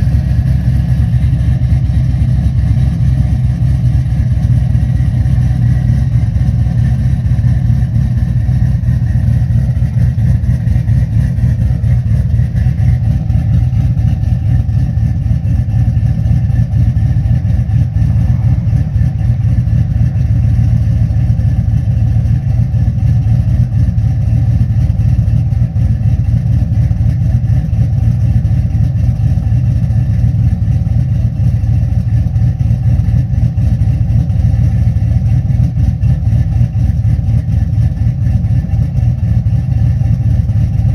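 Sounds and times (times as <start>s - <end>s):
engine idling choppily: 0.0s - 40.9s.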